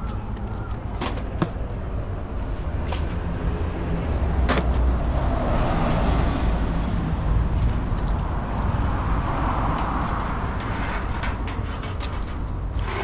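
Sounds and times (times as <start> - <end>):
bus engine and tyre rumble: 0.0 - 13.0
street traffic: 0.0 - 13.0.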